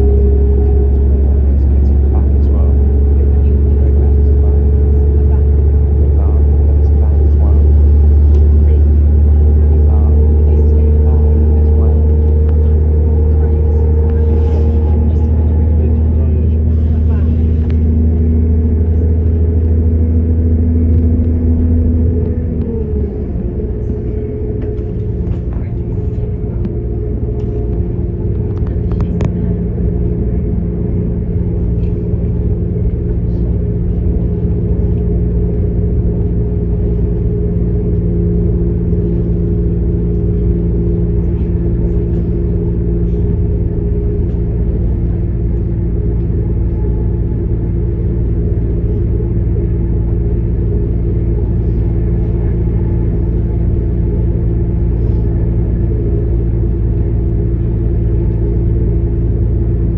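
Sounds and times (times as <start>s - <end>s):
train diesel engine running: 0.0s - 59.9s
wheels rumbling on track: 0.0s - 59.9s.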